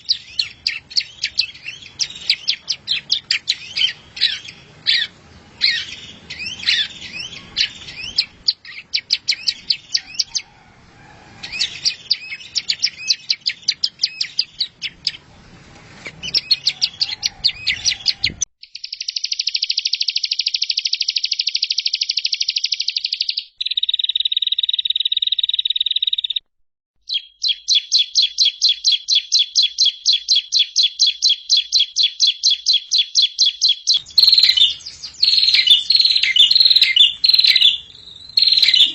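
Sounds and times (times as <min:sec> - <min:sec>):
rapid bird trills: 0:00.0 - 0:10.6, 0:11.4 - 0:15.2, 0:16.1 - 0:26.4, 0:27.1 - 0:38.9
songbird chirps and trills: 0:00.0 - 0:10.8, 0:11.4 - 0:26.4, 0:27.0 - 0:38.9.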